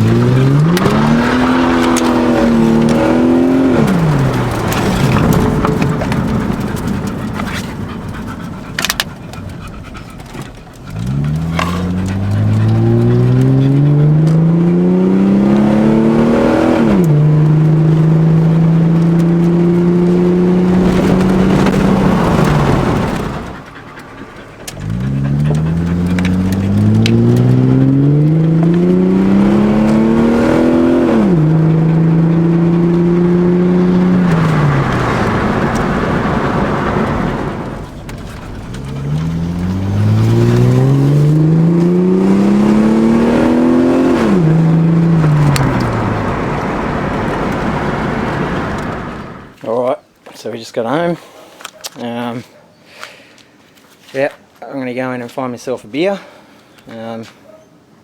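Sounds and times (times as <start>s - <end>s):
car engine revving: 0.0s - 49.6s.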